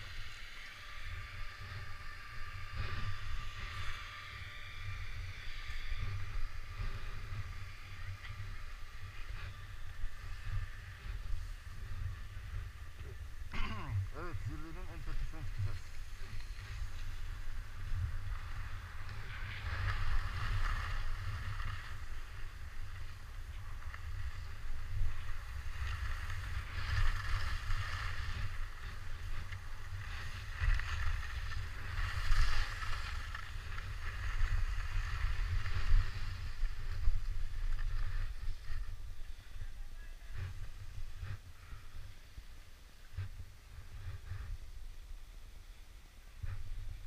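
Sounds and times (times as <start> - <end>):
skis scraping over snow: 0.0 - 13.4, 14.1 - 45.1.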